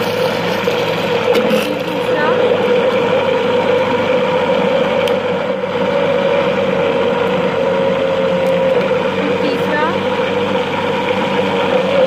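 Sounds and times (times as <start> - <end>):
electric blender motor humming: 0.0 - 12.0.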